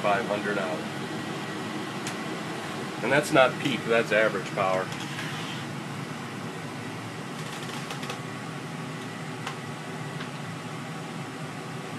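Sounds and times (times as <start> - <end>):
cooling blower whirring: 0.0 - 11.9.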